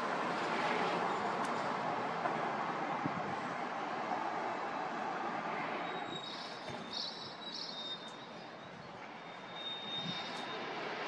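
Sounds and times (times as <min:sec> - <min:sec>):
distant city traffic: 0:00.0 - 0:11.0.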